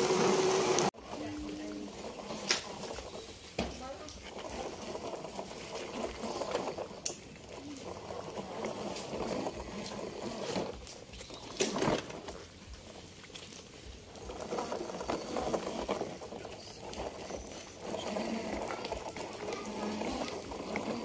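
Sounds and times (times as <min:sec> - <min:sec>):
toy trucks rolling over wet mud: 0:00.0 - 0:21.0.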